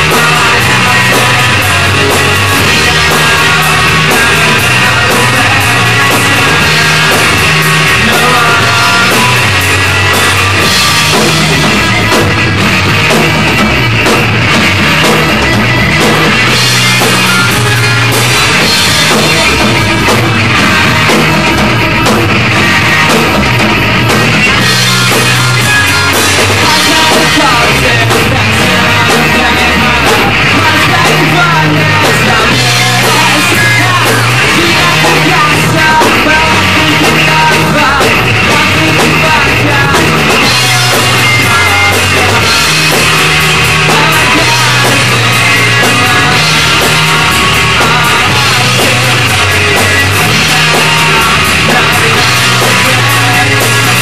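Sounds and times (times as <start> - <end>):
electric guitar: 0.0 - 54.0
rock band playing live: 0.0 - 54.0.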